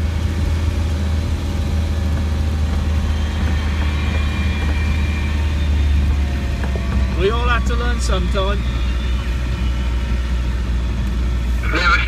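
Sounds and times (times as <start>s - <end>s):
diesel engine drone: 0.0s - 12.0s
tyres on gravel track: 0.0s - 12.0s.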